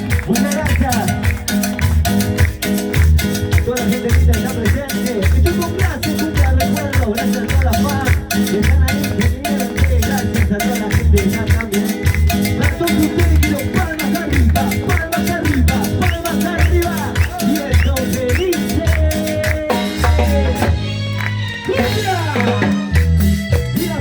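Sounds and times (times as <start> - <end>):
salsa music: 0.0 - 24.0.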